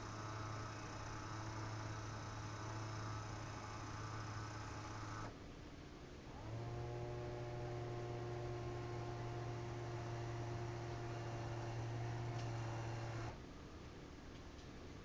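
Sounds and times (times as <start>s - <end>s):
motor humming: 0.0s - 5.3s, 6.3s - 13.4s.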